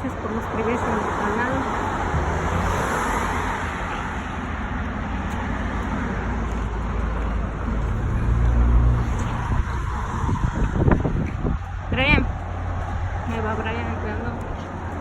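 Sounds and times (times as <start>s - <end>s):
road traffic noise: 0.0s - 15.0s
vehicle passing rumble: 0.0s - 15.0s.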